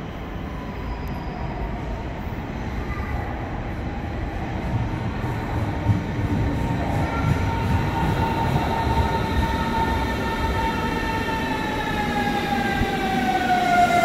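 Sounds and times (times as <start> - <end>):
electric train rumble: 1.0 - 14.0.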